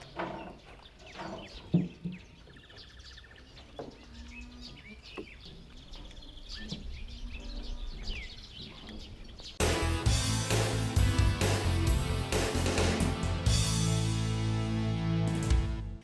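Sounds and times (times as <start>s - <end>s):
songbirds chirping and trilling: 0.0s - 13.6s.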